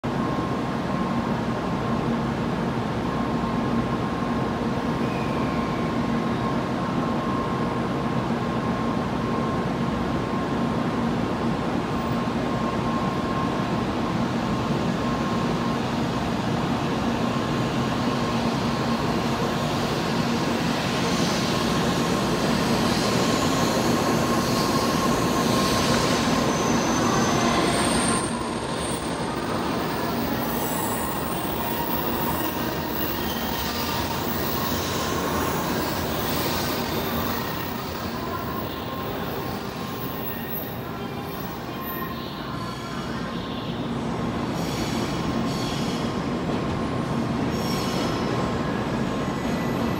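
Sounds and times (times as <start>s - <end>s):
train whine and rushing: 0.0s - 49.9s.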